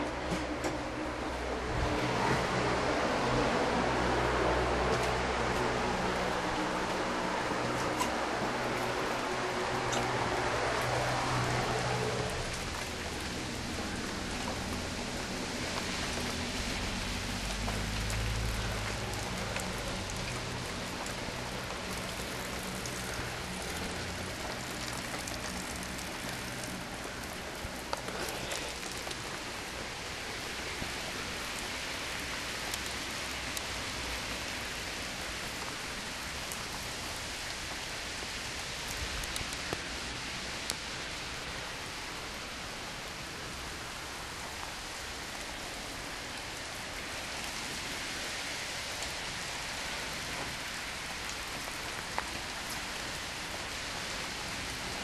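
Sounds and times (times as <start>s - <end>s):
raindrops ticking close by: 0.0s - 55.0s
steady rain falling: 0.0s - 55.0s.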